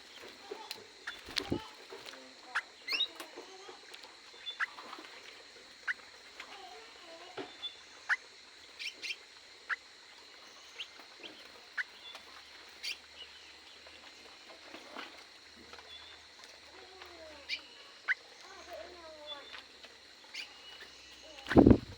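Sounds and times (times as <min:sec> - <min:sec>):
small birds chirping: 0:00.0 - 0:15.0, 0:15.6 - 0:21.9.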